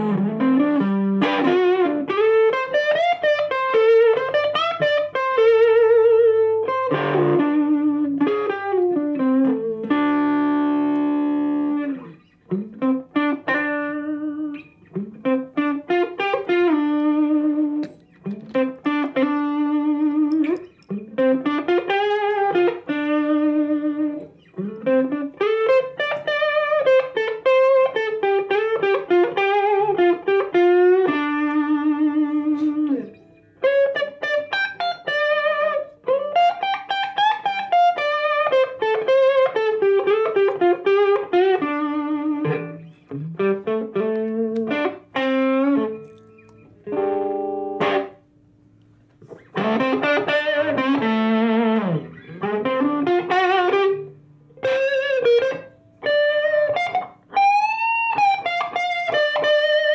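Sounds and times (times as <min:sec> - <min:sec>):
electric guitar melody: 0:00.0 - 0:59.9.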